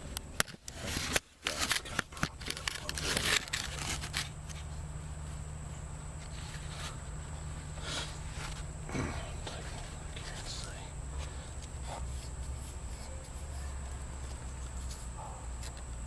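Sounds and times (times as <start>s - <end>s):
handling clicks and rustles: 0.0s - 16.0s
steady low hum: 0.0s - 16.0s.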